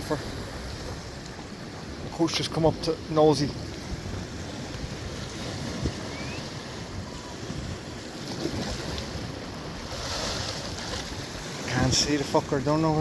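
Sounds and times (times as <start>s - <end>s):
sea waves: 0.0s - 13.0s
wind buffeting microphone: 0.0s - 13.0s.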